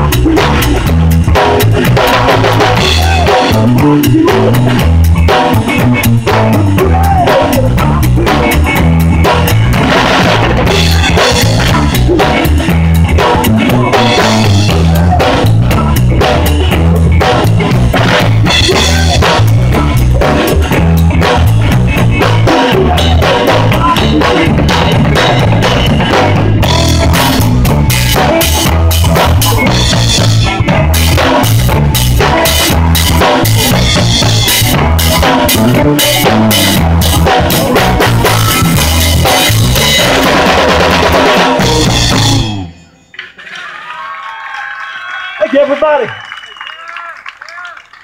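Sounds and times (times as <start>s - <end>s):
drum kit: 0.0s - 42.7s
rock band playing: 0.0s - 42.9s.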